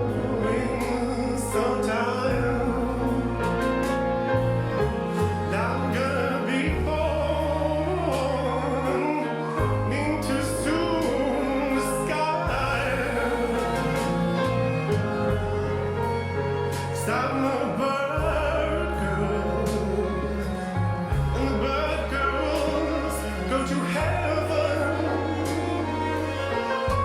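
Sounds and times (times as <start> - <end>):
low piano notes: 0.0 - 27.0.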